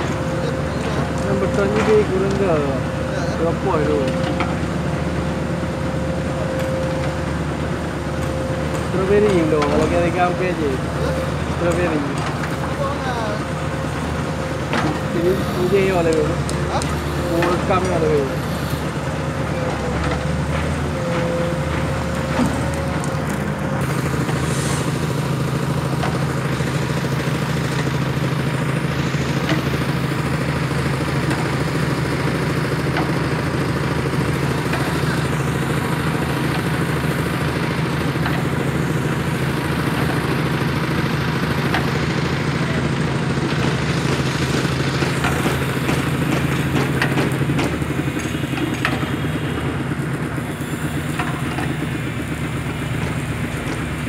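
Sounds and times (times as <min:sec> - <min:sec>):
diesel engine humming under load: 0:00.0 - 0:54.0.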